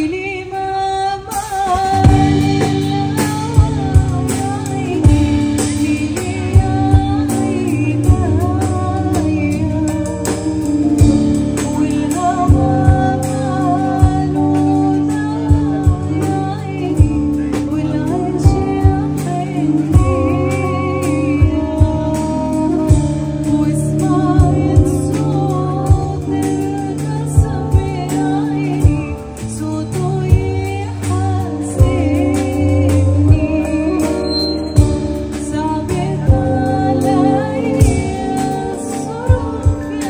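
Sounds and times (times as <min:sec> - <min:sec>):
live band with singer: 0:00.0 - 0:40.0
steady drum beat: 0:01.3 - 0:40.0.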